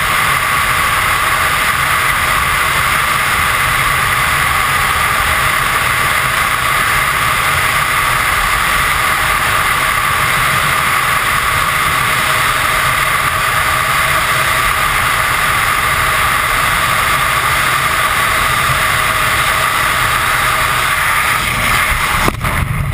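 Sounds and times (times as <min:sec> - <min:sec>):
freefall wind rush: 0:00.0 - 0:22.9.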